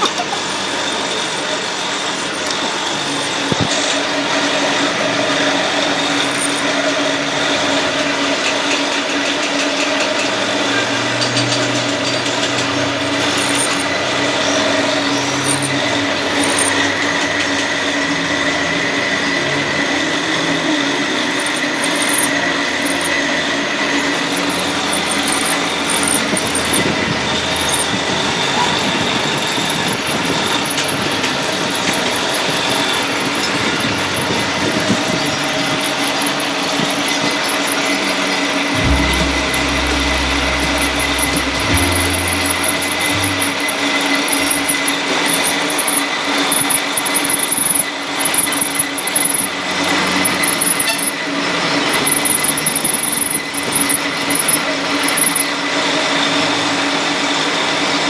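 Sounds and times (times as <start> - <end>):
machinery droning: 0.4 - 9.1, 9.7 - 56.8.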